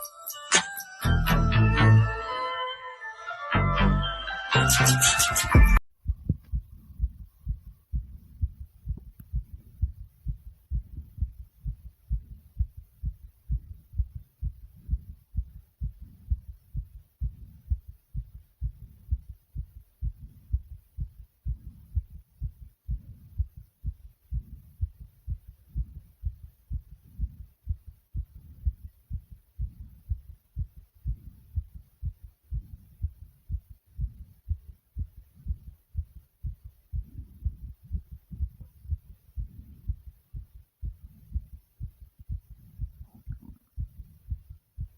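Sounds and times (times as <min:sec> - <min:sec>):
heartbeat pounding: 0:05.5 - 0:44.9.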